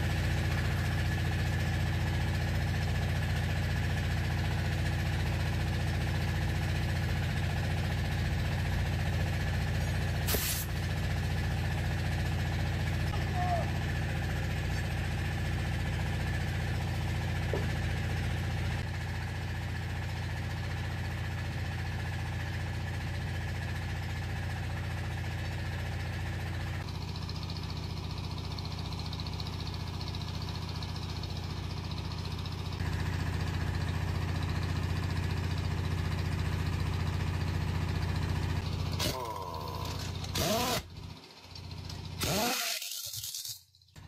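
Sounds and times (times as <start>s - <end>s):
motor idling with pulsing hum: 0.0s - 43.2s.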